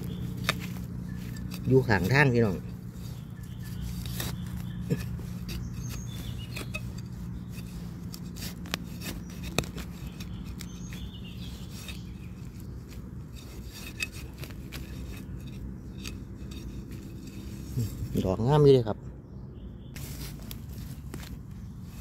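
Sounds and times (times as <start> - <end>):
steady low hum: 0.0 - 18.2
rustling of leaf litter and grass: 0.0 - 18.6, 20.0 - 22.0.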